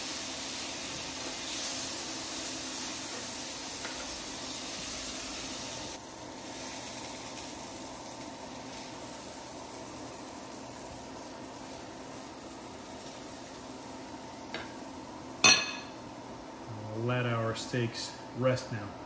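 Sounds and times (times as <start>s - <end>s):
steaks sizzling in a skillet: 0.0s - 16.1s.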